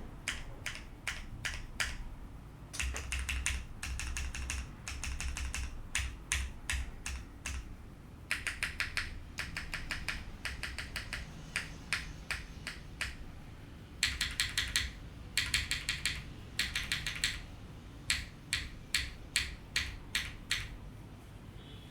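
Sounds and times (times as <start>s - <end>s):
mechanical keyboard typing: 0.2s - 2.1s, 2.7s - 7.7s, 8.3s - 13.4s, 14.0s - 20.8s.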